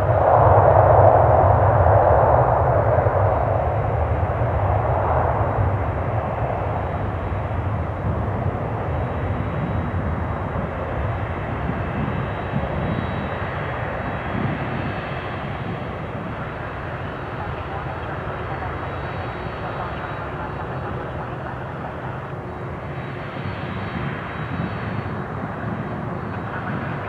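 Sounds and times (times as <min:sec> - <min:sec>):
jet engines at takeoff thrust: 0:00.0 - 0:27.0.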